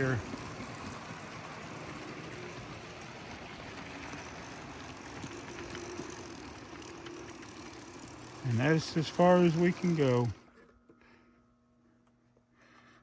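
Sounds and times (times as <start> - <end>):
model train running on track: 0.0 - 10.5
faint hum: 0.0 - 13.0.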